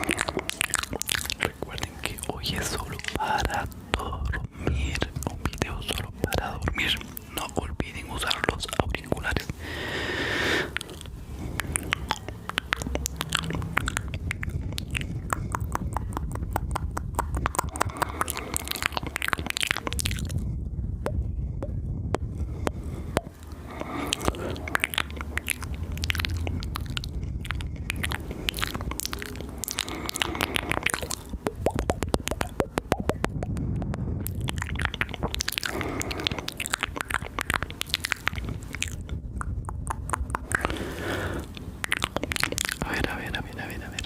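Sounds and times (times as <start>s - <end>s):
wet mouth clicks and smacks: 0.0s - 44.0s.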